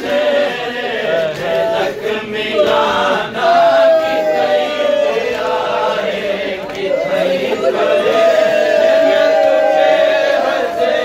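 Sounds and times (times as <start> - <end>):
men chanting a lament in unison: 0.0 - 11.0.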